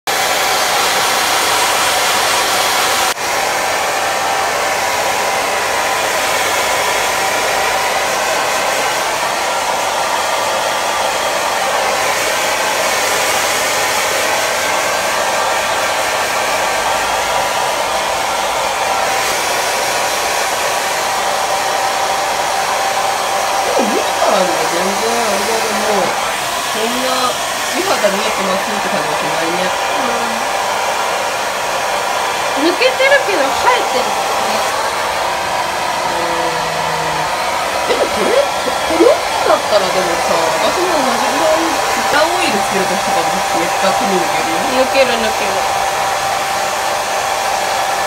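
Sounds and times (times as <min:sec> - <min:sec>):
hair dryer running: 0:00.1 - 0:48.0.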